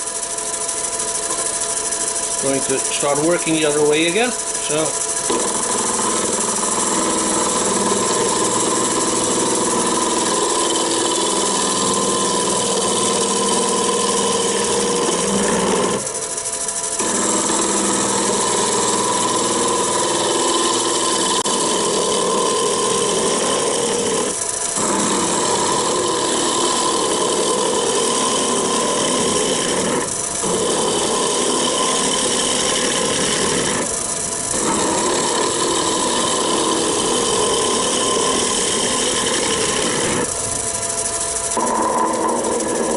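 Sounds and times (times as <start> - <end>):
gouge cutting wood hiss: 0.0 - 42.9
lathe motor hum: 0.0 - 42.9.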